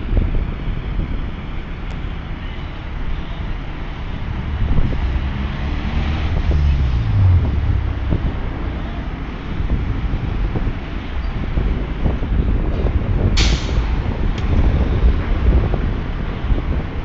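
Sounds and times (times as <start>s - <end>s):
street traffic passing: 0.0s - 17.0s
wind rumbling on microphone: 0.0s - 17.0s.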